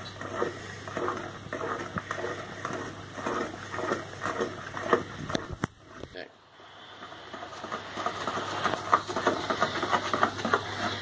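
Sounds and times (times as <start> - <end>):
utensil scraping plastic bowl: 0.0 - 11.0.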